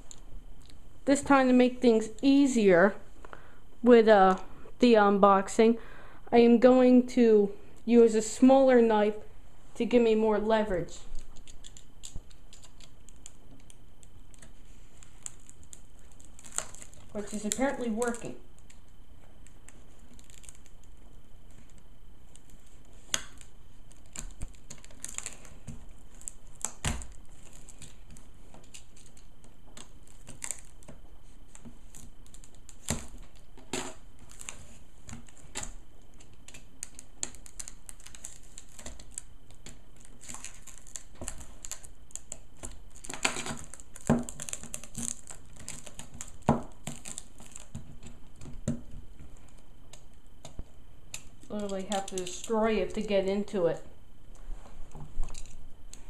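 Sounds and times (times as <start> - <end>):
plastic packaging crackling and snapping: 0.0 - 2.4, 11.0 - 56.0.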